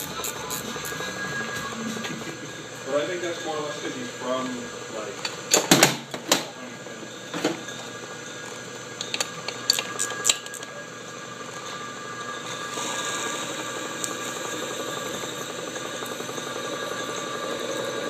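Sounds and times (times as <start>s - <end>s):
lathe drilling whine: 0.0s - 5.6s, 6.5s - 18.0s.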